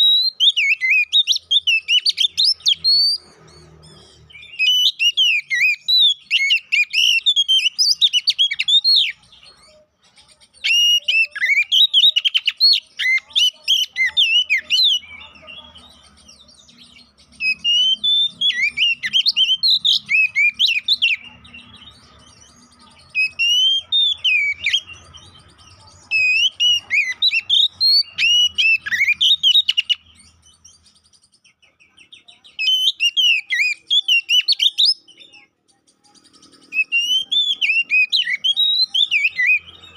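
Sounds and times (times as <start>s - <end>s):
bird singing whistled phrases: 0.0s - 3.2s, 4.1s - 9.6s, 10.4s - 25.0s, 26.0s - 39.9s.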